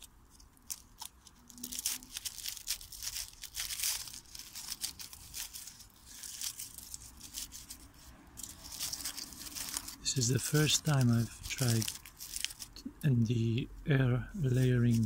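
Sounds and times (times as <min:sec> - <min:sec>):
aluminium foil crinkling: 0:00.0 - 0:12.8, 0:14.4 - 0:15.0.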